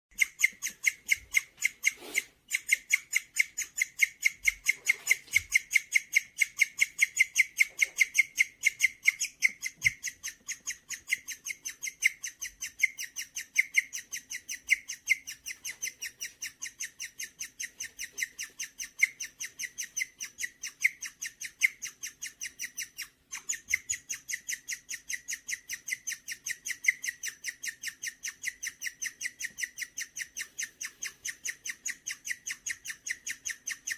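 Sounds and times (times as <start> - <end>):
guinea pig chirping: 0.1 - 33.9.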